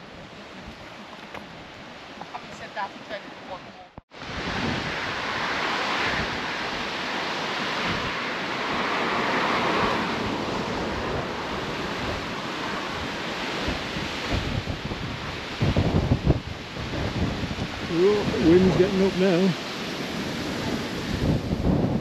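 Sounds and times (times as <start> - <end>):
gusty wind through tree leaves: 0.0 - 22.0
wind buffeting microphone: 0.0 - 22.0.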